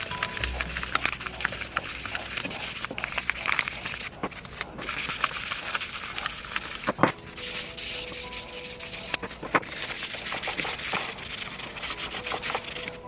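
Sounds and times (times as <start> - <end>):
metal rubbed on sandpaper: 0.0 - 13.0.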